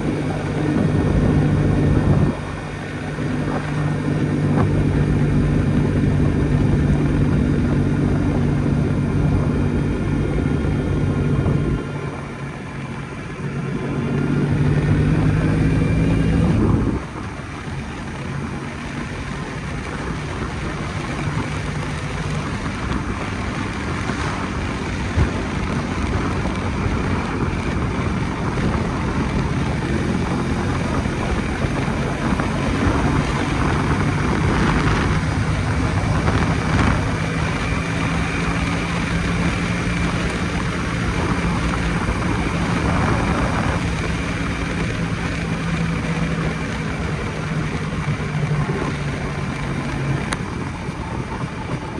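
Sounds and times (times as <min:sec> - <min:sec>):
motorcycle two-stroke engine running: 0:00.0 - 0:51.9
wind noise on microphone: 0:00.0 - 0:51.9.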